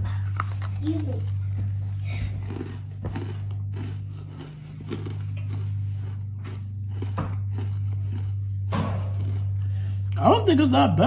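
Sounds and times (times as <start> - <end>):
person chewing crunchy cookie: 0.0 - 10.7
low electrical hum: 0.0 - 11.0.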